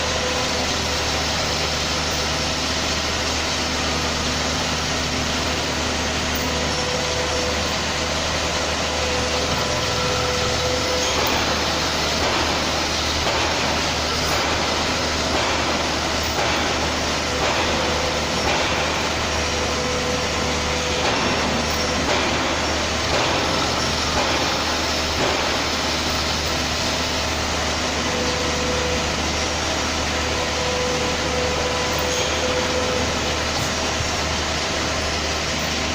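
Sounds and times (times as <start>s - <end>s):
machine running: 0.0s - 35.9s
thin machine whine: 0.0s - 35.9s.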